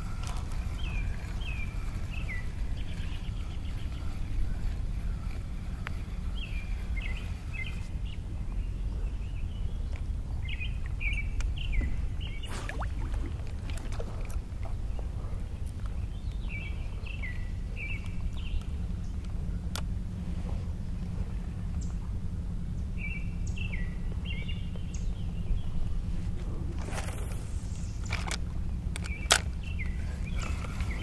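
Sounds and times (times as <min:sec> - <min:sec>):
songbird chirping: 0:00.0 - 0:13.1, 0:13.7 - 0:19.9, 0:21.1 - 0:31.0
low steady rumble: 0:00.0 - 0:31.0.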